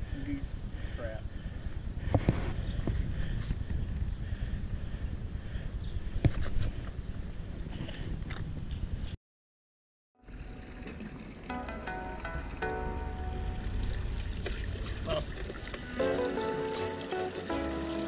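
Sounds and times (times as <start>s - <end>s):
low wind rumble: 0.0s - 9.2s, 10.3s - 16.6s.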